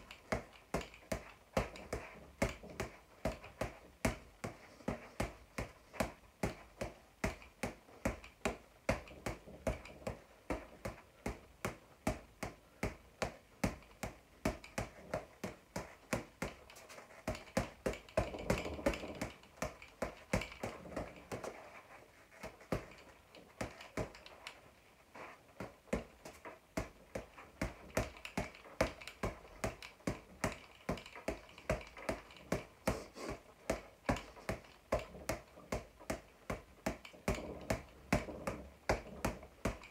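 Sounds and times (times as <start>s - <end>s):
boxing gloves slapping punching ball: 0.0s - 39.9s.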